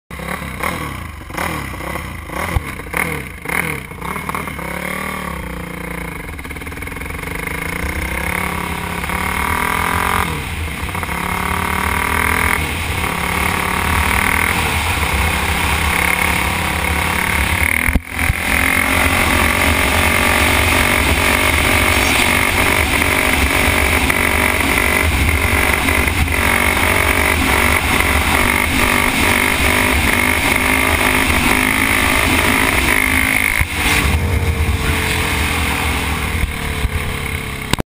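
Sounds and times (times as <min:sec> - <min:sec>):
dirt bike engine revving: 0:00.1 - 0:37.8.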